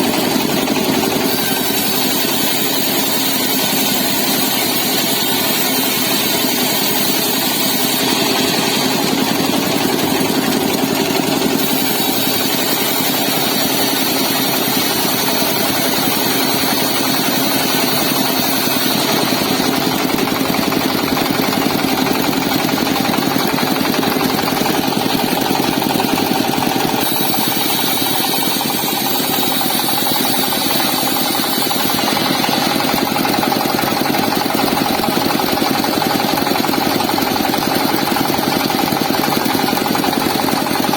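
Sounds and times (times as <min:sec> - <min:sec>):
engine driving saw: 0:00.0 - 0:40.9.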